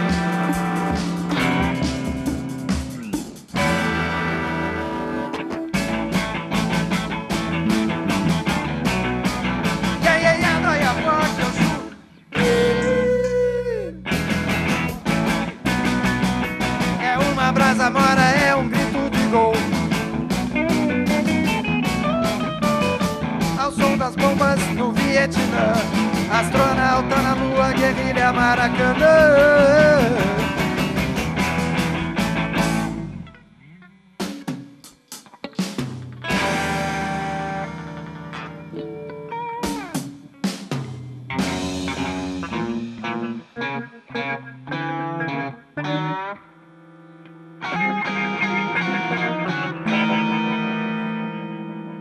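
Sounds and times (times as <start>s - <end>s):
live rock band playing: 0.0s - 33.6s, 34.2s - 52.0s
bent wavering guitar notes: 0.0s - 34.3s, 35.3s - 52.0s.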